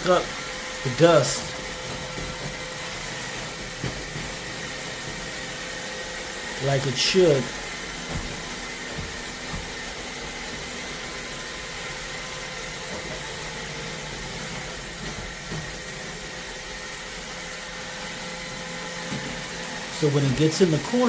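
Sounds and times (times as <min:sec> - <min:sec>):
robot vacuum running: 0:00.0 - 0:21.0.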